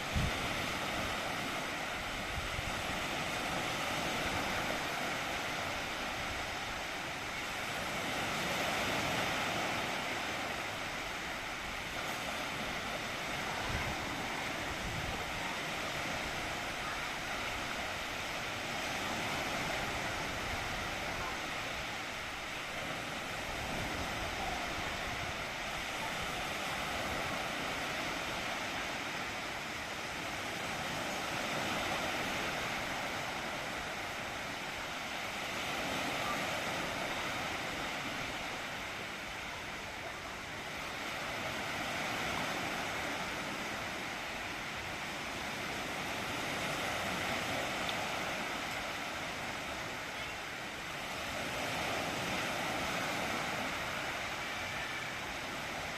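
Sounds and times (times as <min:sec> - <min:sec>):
small waves washing on beach: 0:00.0 - 0:55.9.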